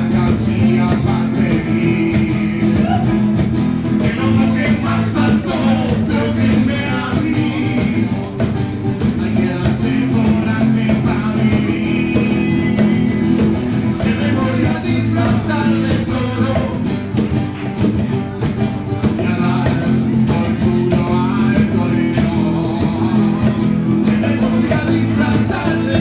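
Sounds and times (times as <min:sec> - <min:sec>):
man singing: 0:00.0 - 0:17.2, 0:18.9 - 0:26.0
strummed acoustic guitar: 0:00.0 - 0:26.0.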